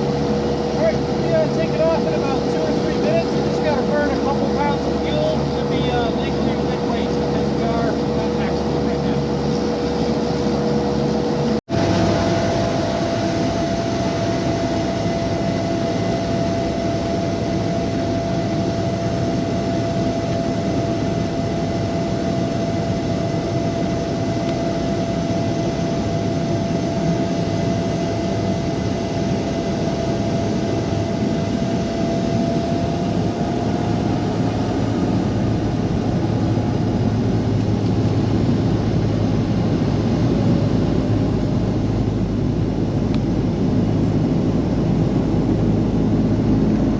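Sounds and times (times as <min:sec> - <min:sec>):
large engine droning: 0:00.0 - 0:46.9.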